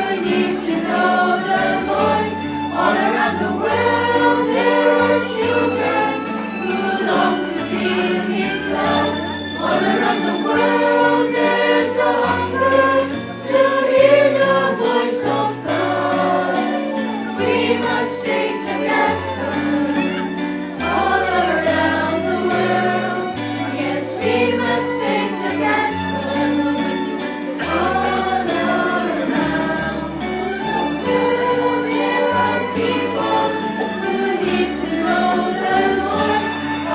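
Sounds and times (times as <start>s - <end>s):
choir singing: 0.0s - 36.9s.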